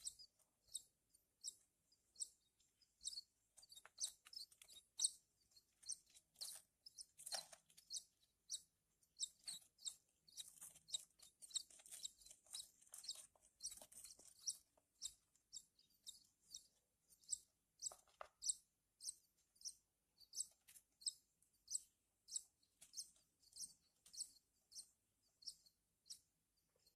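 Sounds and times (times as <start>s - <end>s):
bird chick cheeping: 0.0s - 26.2s.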